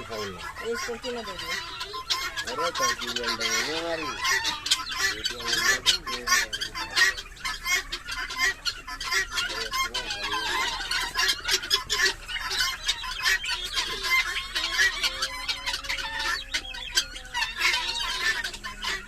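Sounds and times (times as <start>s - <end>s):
guinea fowl calling: 0.0s - 19.0s.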